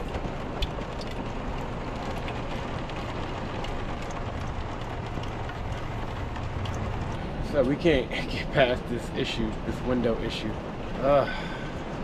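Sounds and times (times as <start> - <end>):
raindrops ticking on roof: 0.0 - 12.0
steady hiss of rainfall: 0.0 - 12.0.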